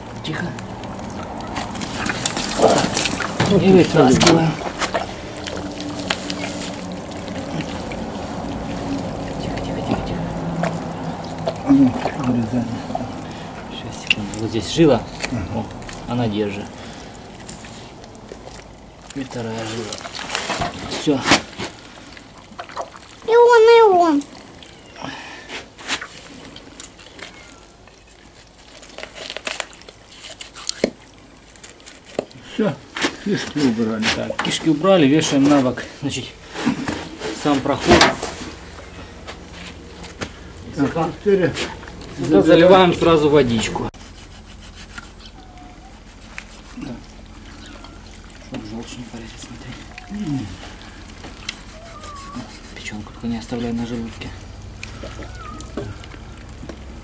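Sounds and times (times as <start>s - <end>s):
wet trickling and squelching: 0.0s - 57.0s.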